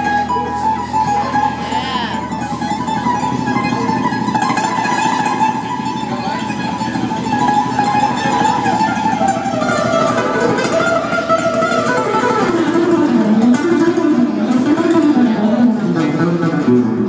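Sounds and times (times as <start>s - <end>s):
acoustic-electric guitar melody: 0.0s - 17.0s.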